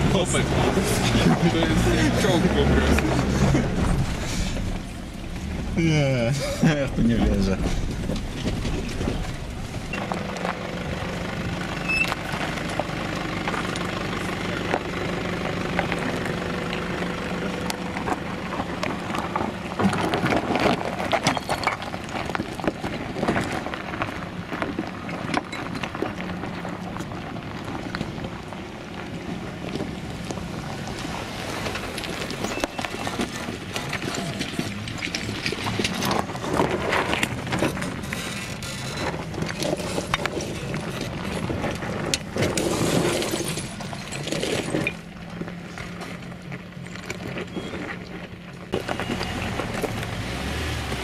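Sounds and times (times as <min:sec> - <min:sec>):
diesel engine running at low revs: 0:00.0 - 0:21.2, 0:21.8 - 0:51.0.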